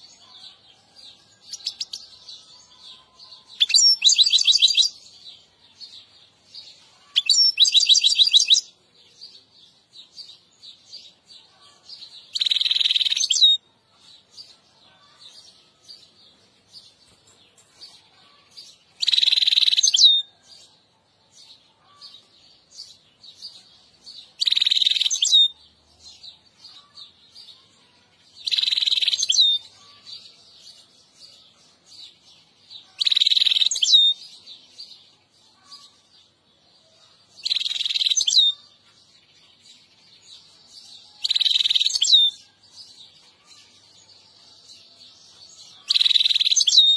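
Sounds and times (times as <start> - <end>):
bird twittering song: 0.0 - 46.9
soft bird chirps: 1.5 - 16.1, 16.7 - 46.9.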